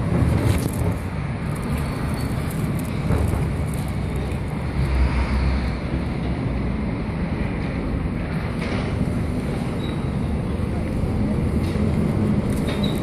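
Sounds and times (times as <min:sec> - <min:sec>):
street traffic: 0:00.0 - 0:13.0
wind rumbling on microphone: 0:00.0 - 0:13.0.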